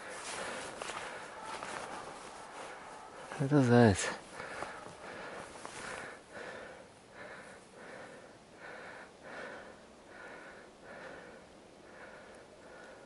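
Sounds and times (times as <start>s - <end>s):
person breathing hard: 0.0s - 3.4s, 4.0s - 13.0s.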